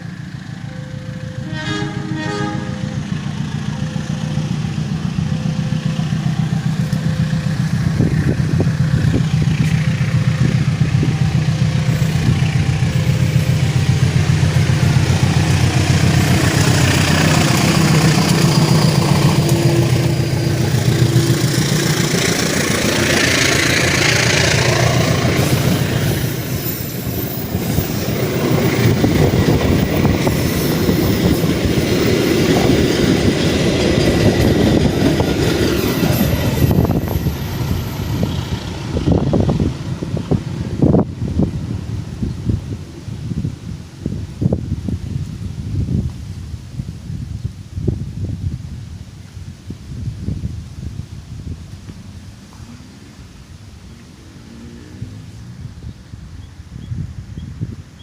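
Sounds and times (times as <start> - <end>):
locomotive engine droning: 0.0 - 57.8
wheel and rail noise: 0.0 - 58.0.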